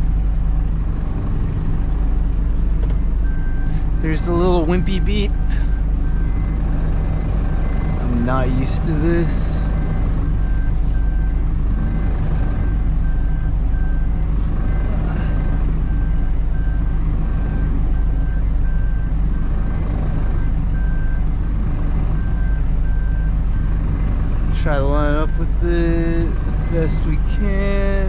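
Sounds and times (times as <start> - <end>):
diesel engine running: 0.0 - 28.0
truck reversing alarm beeping: 0.0 - 28.0.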